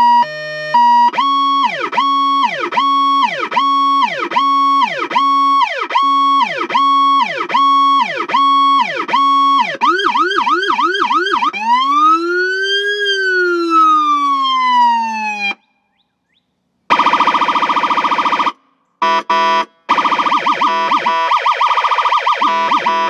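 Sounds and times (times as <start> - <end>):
siren cycling through tones: 0.0 - 15.7, 16.9 - 23.0.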